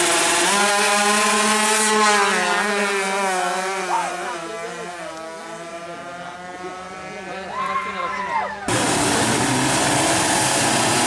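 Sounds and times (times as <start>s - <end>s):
two-stroke engine high revs: 0.0s - 7.3s, 8.7s - 11.0s.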